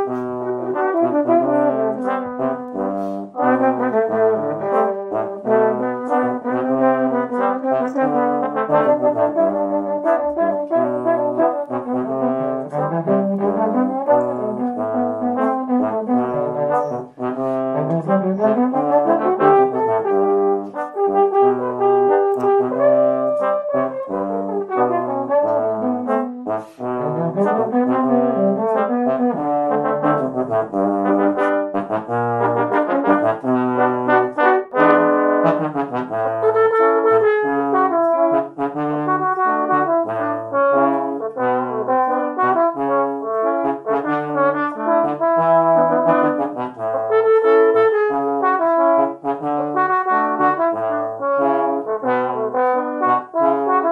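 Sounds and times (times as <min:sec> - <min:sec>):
trombone quartet playing: 0:00.0 - 0:53.9.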